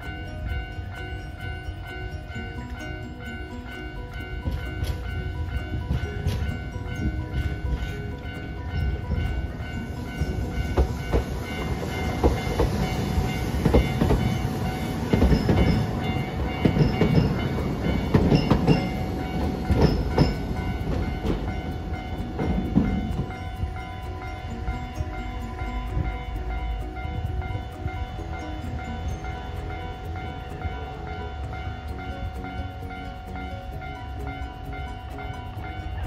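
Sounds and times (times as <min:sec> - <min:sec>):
tram passing: 0:00.0 - 0:36.0
wheels clicking over rail joints: 0:00.0 - 0:36.0.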